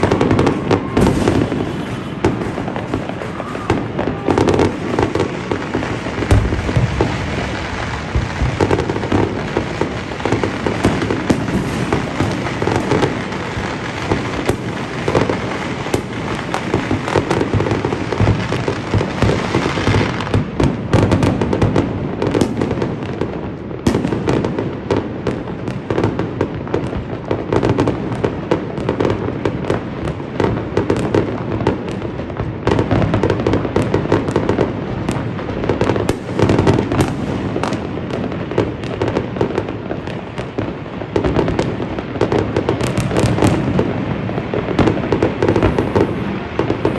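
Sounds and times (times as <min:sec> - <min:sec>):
fireworks and firecrackers bangs: 0:00.0 - 0:46.9.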